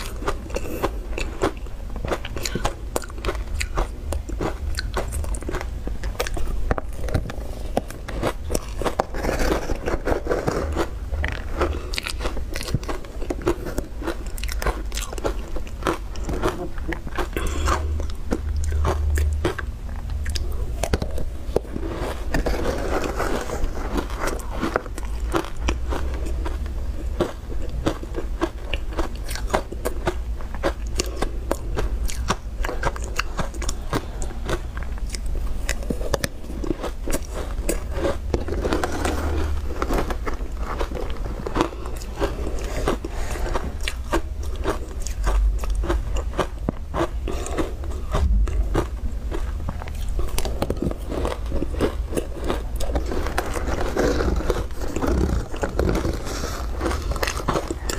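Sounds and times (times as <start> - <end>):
crunching and chewing ice: 0.0 - 57.9.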